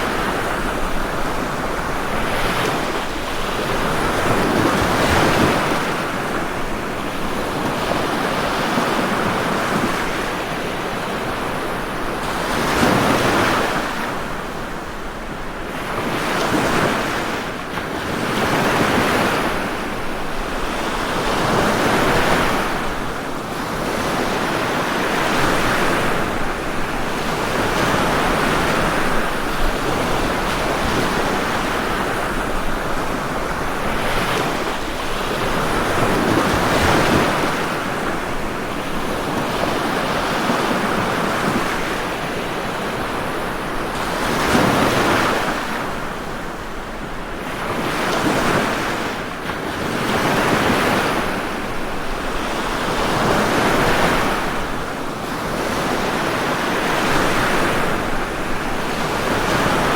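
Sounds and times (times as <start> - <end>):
continuous rush of water: 0.0 - 59.9
waves breaking: 0.0 - 59.9.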